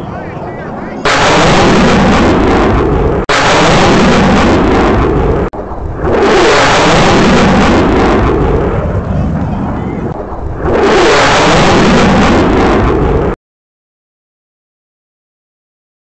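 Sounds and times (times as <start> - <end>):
jet fighters roaring overhead: 0.0 - 13.4.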